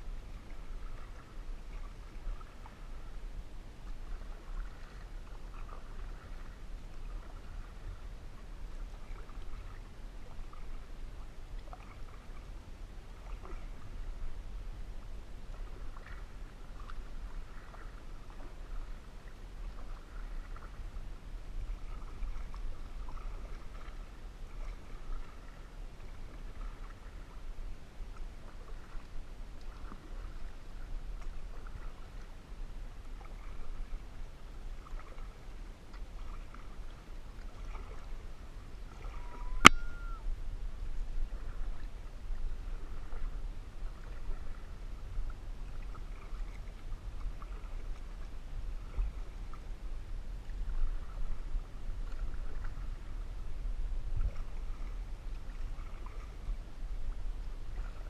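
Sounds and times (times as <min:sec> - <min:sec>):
paddle splashing in water: 0:00.1 - 0:03.2, 0:03.8 - 0:12.5, 0:13.1 - 0:14.4, 0:15.4 - 0:32.4, 0:33.0 - 0:40.2, 0:41.2 - 0:58.0.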